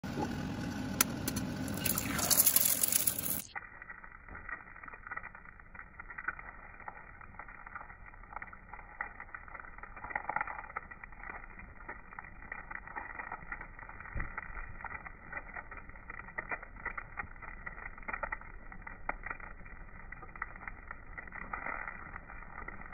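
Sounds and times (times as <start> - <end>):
fat crackling and popping: 0.0 - 22.9
eggs sizzling in a pan: 0.1 - 22.9.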